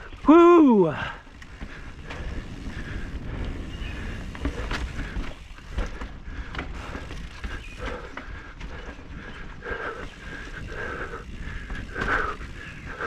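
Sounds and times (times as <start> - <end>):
bike clacks and rattles: 0.0 - 13.0
tyres rolling on dirt and rock: 0.0 - 13.0.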